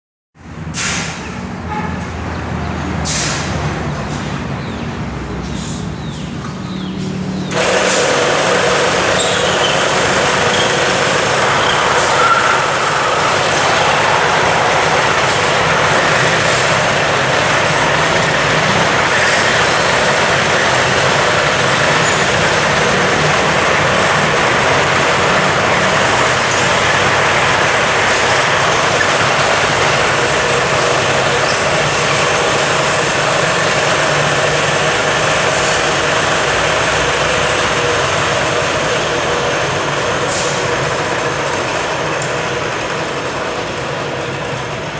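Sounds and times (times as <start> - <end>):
machine whirring and hissing: 7.1 - 43.7.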